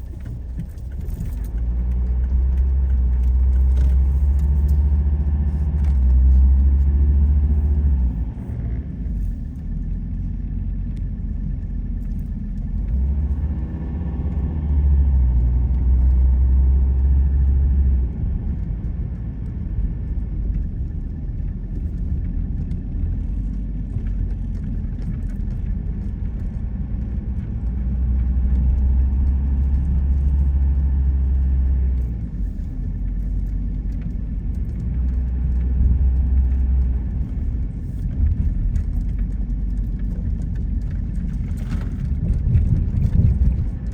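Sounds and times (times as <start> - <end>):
car road and engine rumble: 0.0 - 43.9
deep low rumble: 0.0 - 43.9.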